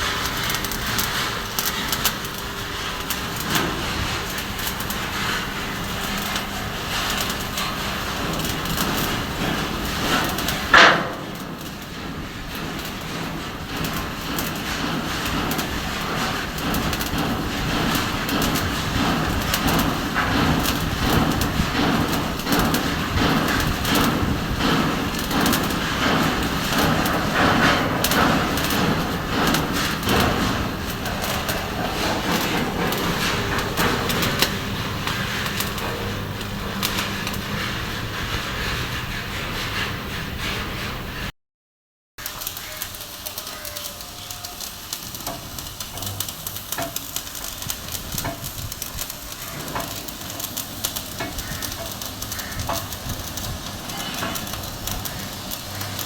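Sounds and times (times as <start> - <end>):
welding arc crackling: 0.0 - 38.9, 42.2 - 56.0.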